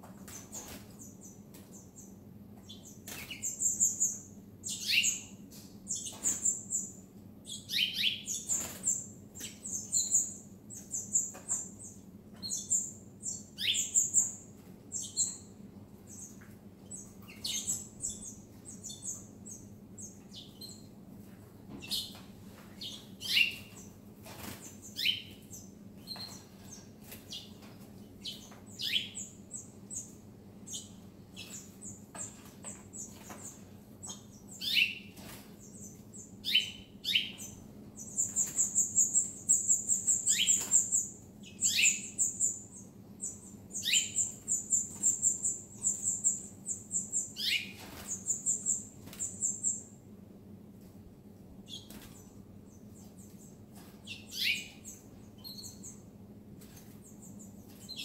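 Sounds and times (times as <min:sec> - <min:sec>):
faint steady hum: 0:00.0 - 0:58.0
songbirds chirping: 0:00.0 - 0:58.0.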